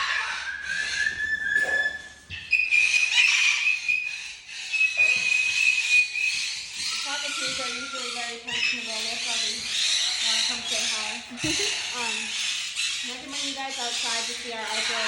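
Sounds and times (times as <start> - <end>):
other birds calling: 0.0 - 15.0
parrots whistling: 0.0 - 15.0.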